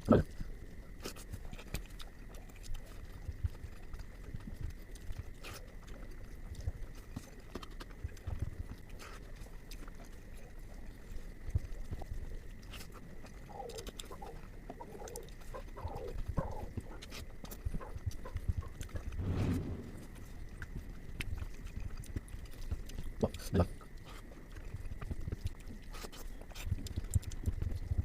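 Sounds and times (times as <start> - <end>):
wet chewing and lip-smacking: 0.2 - 19.2, 20.8 - 28.0.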